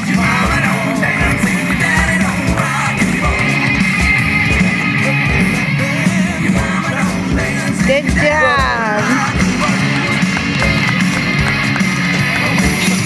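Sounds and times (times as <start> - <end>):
person singing: 0.0 - 11.0
loud rock music: 0.0 - 13.0
steady drum beat: 0.0 - 13.0.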